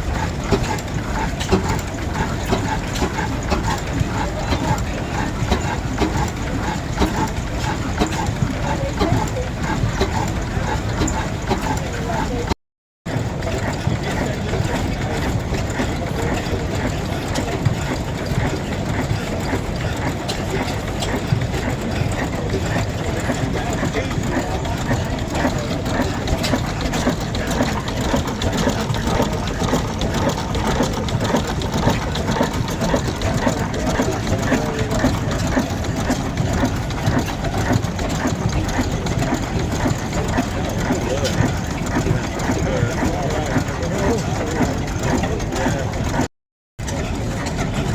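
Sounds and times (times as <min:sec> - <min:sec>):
engine idling with clatter: 0:00.0 - 0:47.9.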